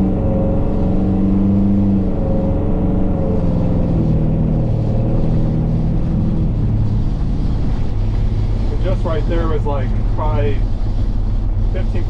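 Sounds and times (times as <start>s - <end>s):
engine pulling at light throttle: 0.0s - 12.0s.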